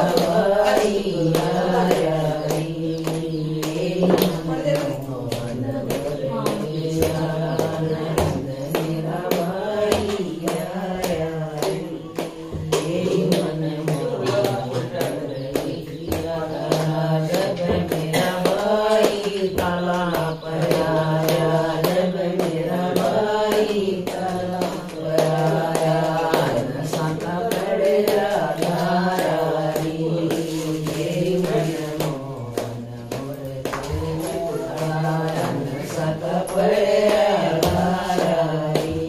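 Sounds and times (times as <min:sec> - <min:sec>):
hand-clapping beat: 0:00.0 - 0:39.0
women singing in unison: 0:00.0 - 0:39.0.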